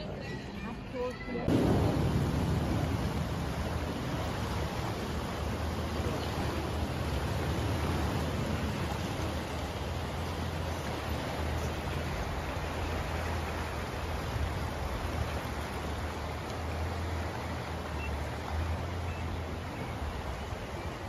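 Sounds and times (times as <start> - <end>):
river rushing: 1.4 - 21.0.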